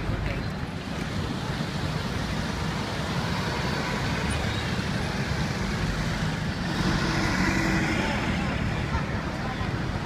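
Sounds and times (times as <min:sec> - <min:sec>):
bus driving past: 0:00.0 - 0:10.0
city road traffic: 0:00.0 - 0:10.0.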